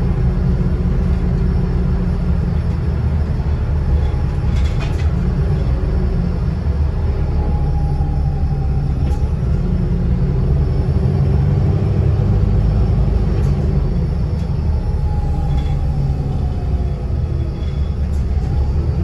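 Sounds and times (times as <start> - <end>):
bus engine and road rumble: 0.0 - 19.0
faint whine: 0.0 - 19.0.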